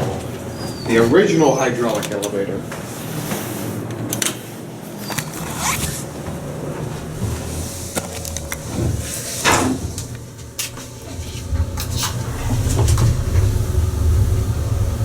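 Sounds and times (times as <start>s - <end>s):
elevator low rumble: 0.0s - 15.0s.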